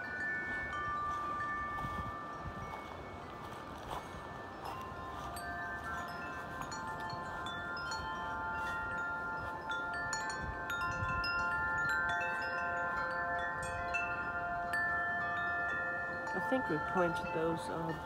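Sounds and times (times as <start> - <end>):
low wind rumbling: 0.0 - 16.6
wind chimes ringing: 0.0 - 18.0.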